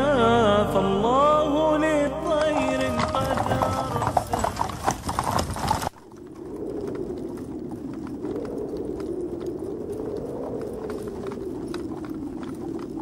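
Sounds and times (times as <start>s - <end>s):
horse hooves clattering: 1.2s - 13.0s.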